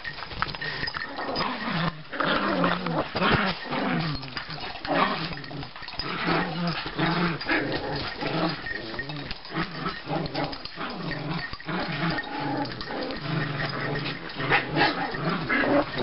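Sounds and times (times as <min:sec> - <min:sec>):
small dogs growling: 0:00.4 - 0:16.0.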